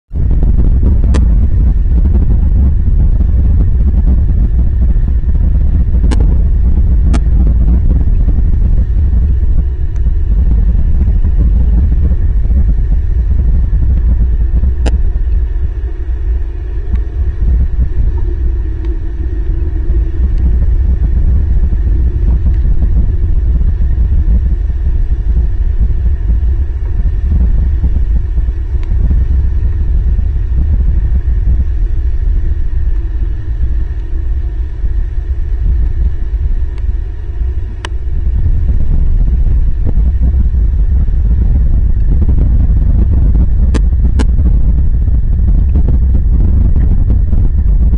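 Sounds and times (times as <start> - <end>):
heavy rain on microphone: 0.1 - 47.9.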